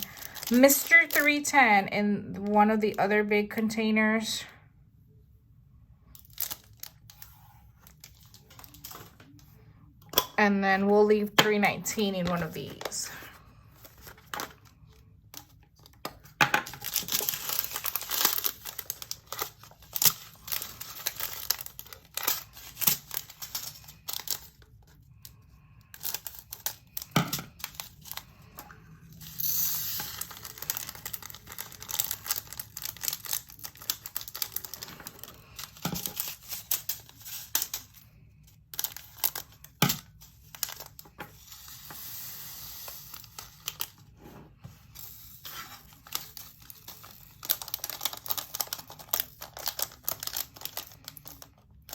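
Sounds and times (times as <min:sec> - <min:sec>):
plastic baggies crinkling: 0:00.0 - 0:01.6, 0:06.2 - 0:09.5, 0:11.3 - 0:51.9.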